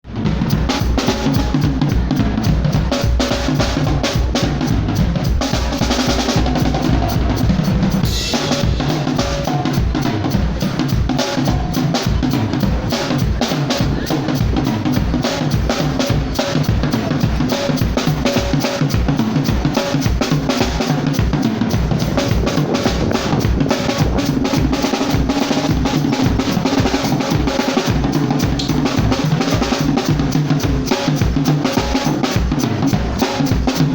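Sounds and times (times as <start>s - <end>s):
drum kit groove: 0.0s - 33.9s.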